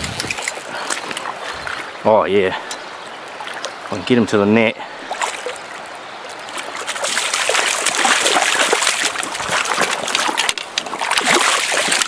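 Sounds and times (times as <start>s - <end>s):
splashing in shallow stream water: 0.0s - 2.0s, 3.2s - 4.0s, 5.0s - 12.0s.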